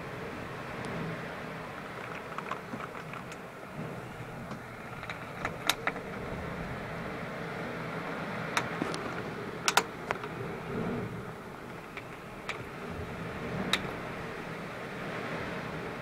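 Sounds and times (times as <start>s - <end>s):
rough sea rushing: 0.0s - 16.0s
strong wind: 0.0s - 16.0s.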